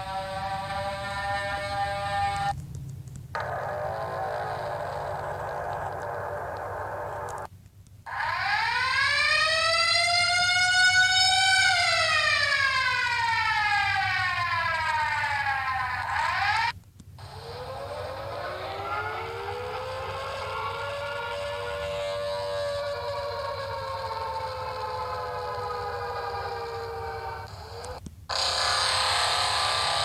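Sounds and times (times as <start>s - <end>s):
wailing siren: 0.0s - 2.6s, 3.4s - 7.5s, 8.1s - 30.0s.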